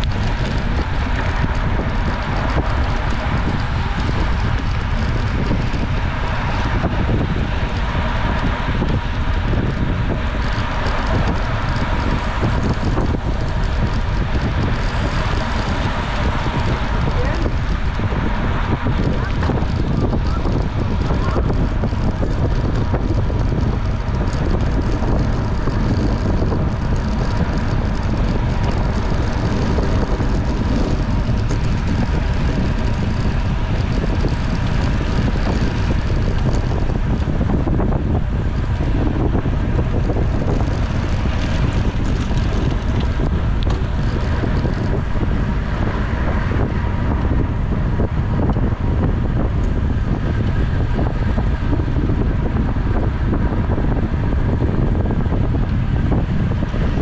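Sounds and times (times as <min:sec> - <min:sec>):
road and tyre noise: 0:00.0 - 0:57.0
wind buffeting microphone: 0:00.0 - 0:57.0.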